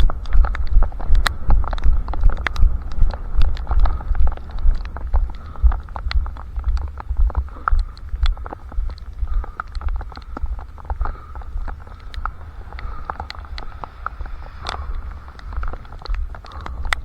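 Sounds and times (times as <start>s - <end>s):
running footsteps thumping: 0.0s - 17.0s
sharp ticks: 0.0s - 17.0s
strap jostling microphone: 0.0s - 17.0s.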